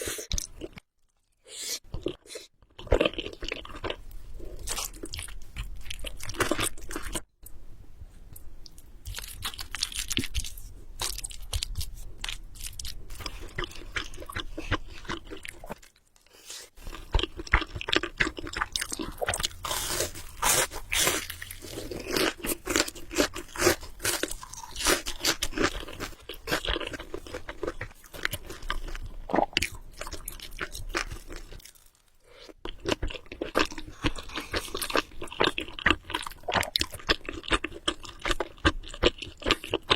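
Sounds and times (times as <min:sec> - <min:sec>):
person chewing food: 0:00.0 - 0:07.6, 0:08.3 - 0:39.9.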